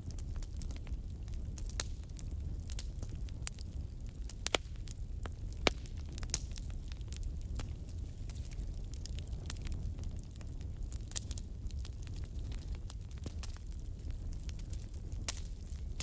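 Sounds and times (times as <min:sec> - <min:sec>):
low rumble of flame: 0:00.0 - 0:16.0
wood fire crackling and popping: 0:00.0 - 0:16.0.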